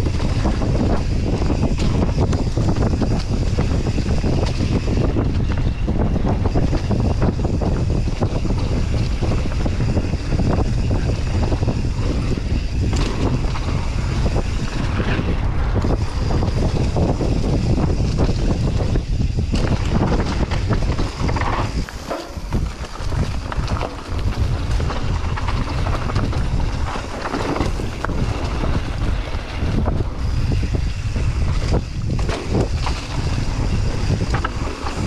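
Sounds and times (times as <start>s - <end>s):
bike clattering over trail: 0.0s - 35.0s
bike tyres on dirt: 0.0s - 35.0s
wind buffeting microphone: 0.0s - 35.0s.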